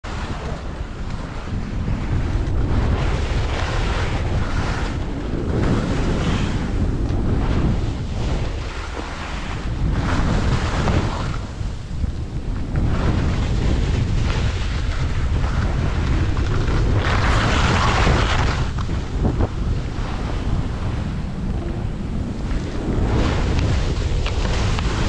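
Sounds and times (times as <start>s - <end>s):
wind buffeting microphone: 0.0s - 25.0s
skis scraping over snow: 0.1s - 25.0s.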